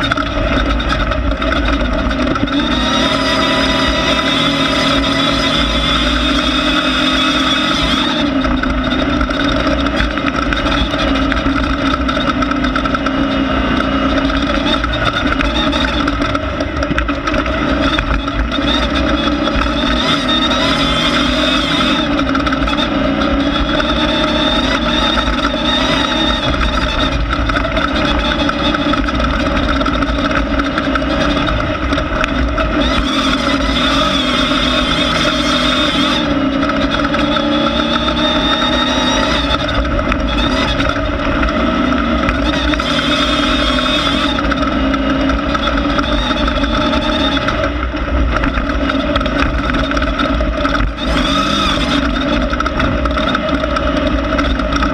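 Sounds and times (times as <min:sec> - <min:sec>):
race car engine running: 0:00.0 - 0:54.9.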